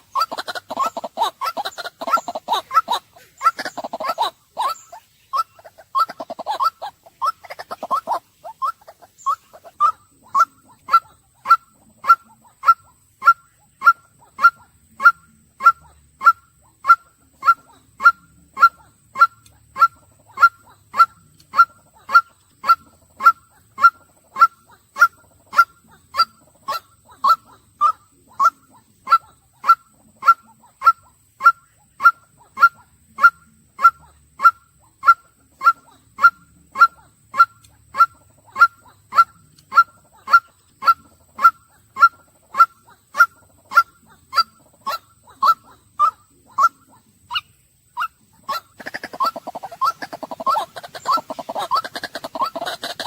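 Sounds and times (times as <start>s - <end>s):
waterhen calling: 0.0s - 53.0s.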